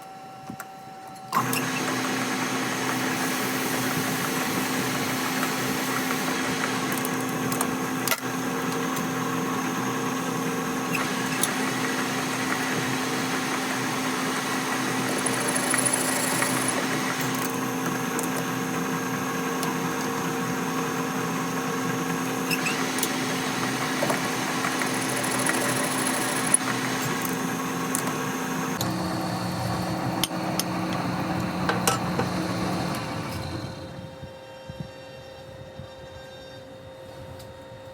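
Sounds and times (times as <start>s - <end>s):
machine running: 1.4s - 34.1s.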